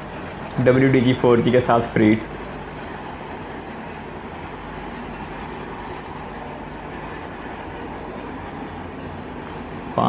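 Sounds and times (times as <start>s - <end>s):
faint low hum: 0.0s - 10.0s
train rumbling past: 0.0s - 10.0s.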